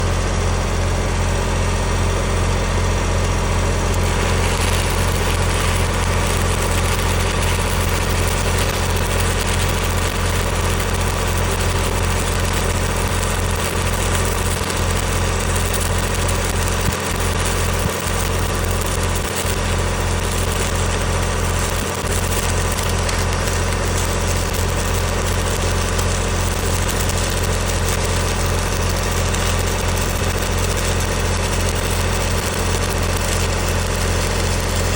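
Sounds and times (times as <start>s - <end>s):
hissing crackle of welding arc: 0.0s - 34.9s
welding generator engine running: 0.0s - 34.9s.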